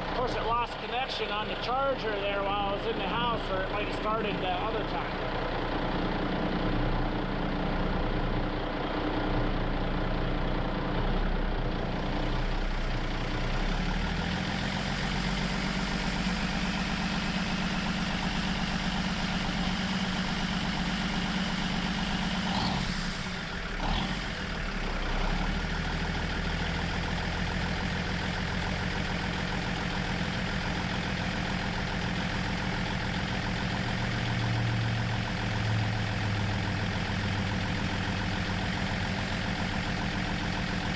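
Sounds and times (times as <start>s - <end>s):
heavy truck engine running: 0.0s - 40.9s.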